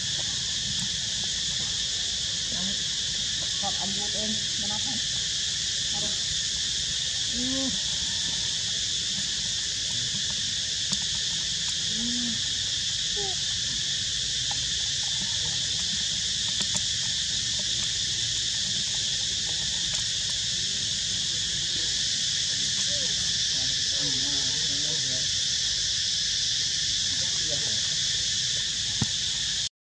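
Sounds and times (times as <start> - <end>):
insect chorus shrilling: 0.0 - 29.7.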